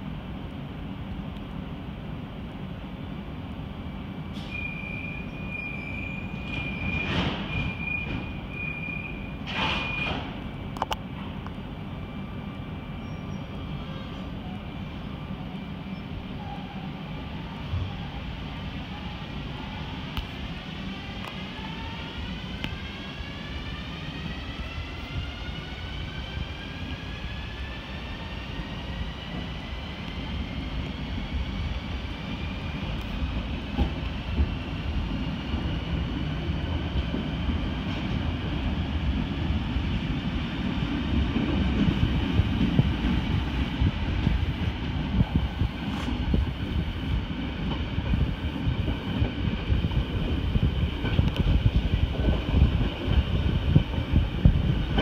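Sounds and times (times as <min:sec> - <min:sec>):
train low rumble: 0:00.0 - 0:55.0.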